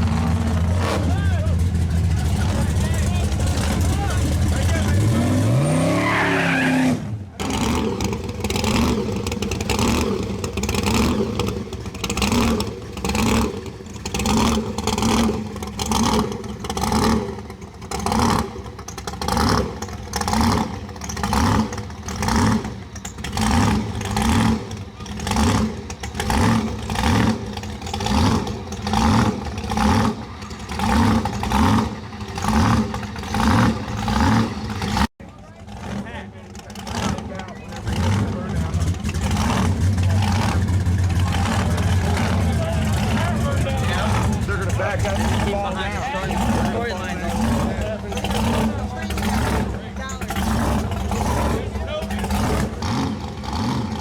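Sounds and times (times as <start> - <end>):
drag car engine revving: 0.0 - 54.0.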